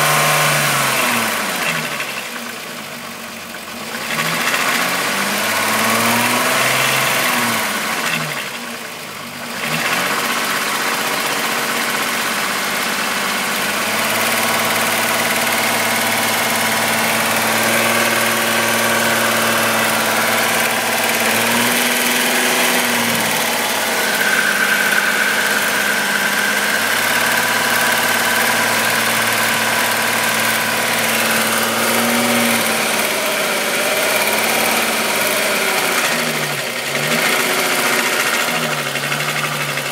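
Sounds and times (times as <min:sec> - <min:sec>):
car engine idling: 0:00.0 - 0:05.8, 0:07.1 - 0:39.9.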